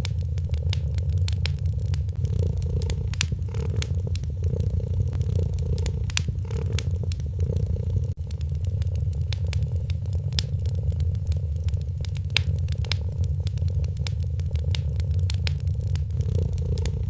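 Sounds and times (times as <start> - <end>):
cat purring: 0.0 - 17.0
wood fire crackling and popping: 0.0 - 17.0.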